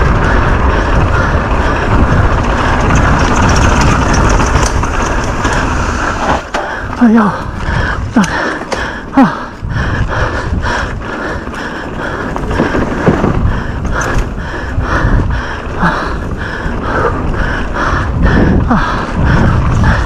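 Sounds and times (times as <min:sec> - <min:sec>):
bike tyres rattling over ground: 0:00.0 - 0:20.0
rider grunting: 0:00.0 - 0:20.0
wind buffeting: 0:00.0 - 0:20.0.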